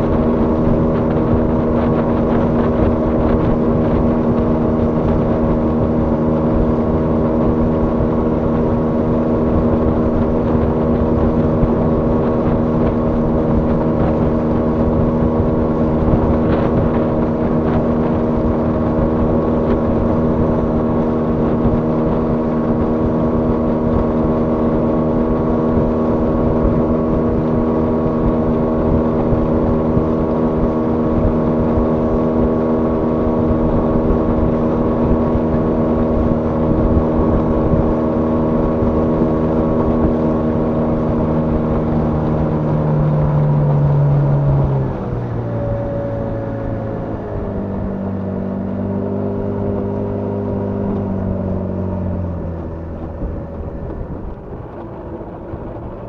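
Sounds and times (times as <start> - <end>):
boat hull rushing through water: 0.0 - 56.0
outboard motor running: 0.0 - 56.0.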